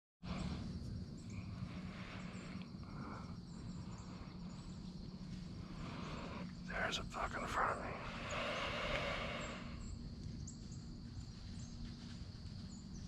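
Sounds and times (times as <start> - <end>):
low background rumble: 0.2 - 13.0
faint bird chirps: 0.3 - 13.0.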